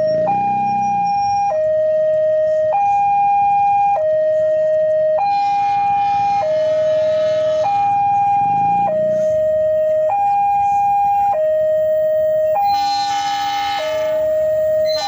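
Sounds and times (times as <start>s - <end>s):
two-tone crossing alarm: 0.0s - 15.0s.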